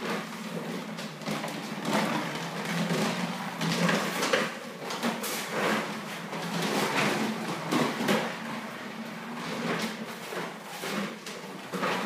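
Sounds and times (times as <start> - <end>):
plastic toy wheels rolling on floor: 0.0 - 12.0.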